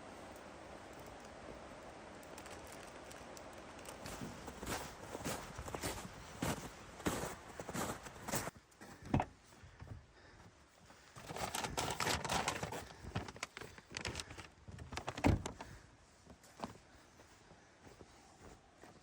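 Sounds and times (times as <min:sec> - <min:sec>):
rustling and crinkling: 0:00.3 - 0:10.3, 0:10.9 - 0:19.0.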